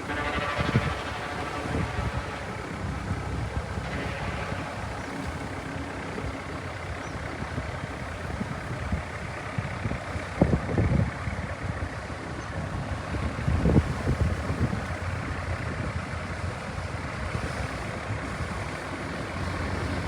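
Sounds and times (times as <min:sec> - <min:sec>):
boat engine running: 0:00.0 - 0:20.0
wind and water noise: 0:00.0 - 0:20.0.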